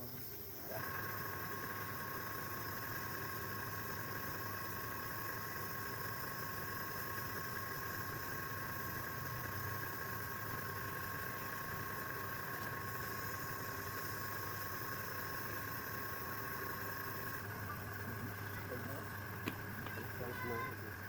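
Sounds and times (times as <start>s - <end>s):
mechanical hum with high whine: 0.0s - 21.0s.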